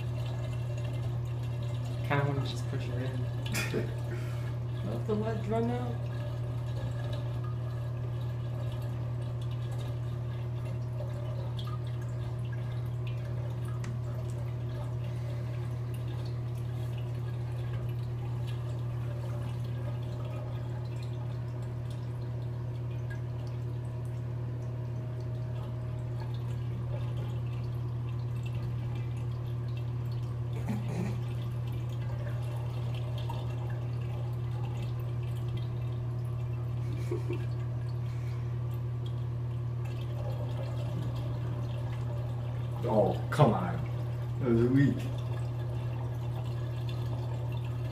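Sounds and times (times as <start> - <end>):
water dripping in bathtub: 0.0 - 47.9.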